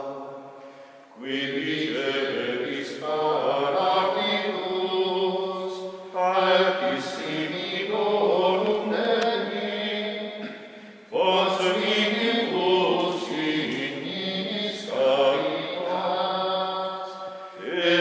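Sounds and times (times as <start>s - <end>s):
men chanting a prayer: 1.2s - 10.4s, 11.1s - 18.0s.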